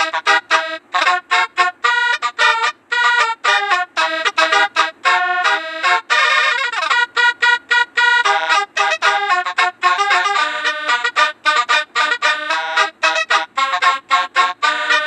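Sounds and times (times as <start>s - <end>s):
bus horn playing a melody: 0.0s - 15.0s.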